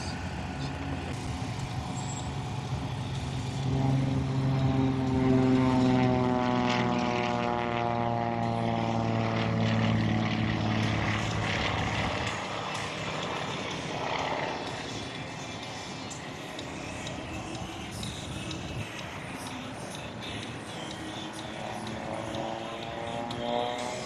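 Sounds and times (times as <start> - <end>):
propeller plane flying past: 0.0 - 24.0.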